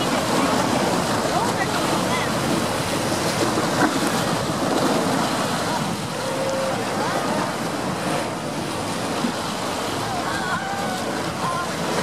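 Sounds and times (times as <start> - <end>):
surf: 0.0 - 12.0.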